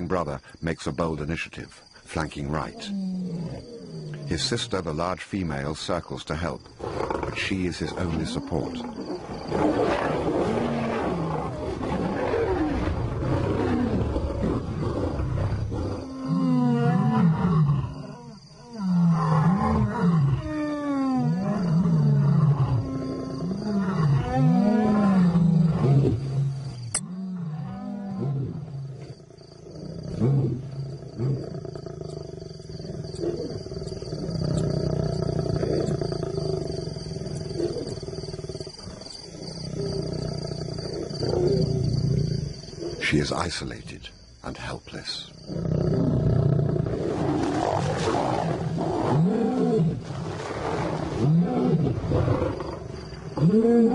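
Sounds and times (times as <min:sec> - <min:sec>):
lions roaring: 0:06.8 - 0:18.1, 0:18.7 - 0:43.0, 0:45.5 - 0:53.9
lions growling: 0:06.8 - 0:43.4, 0:45.5 - 0:53.9.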